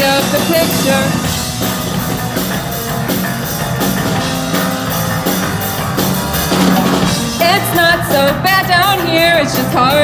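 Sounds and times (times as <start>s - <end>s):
bass guitar: 0.0s - 10.0s
distorted electric guitars: 0.0s - 10.0s
drum kit with cymbal hits: 0.0s - 10.0s.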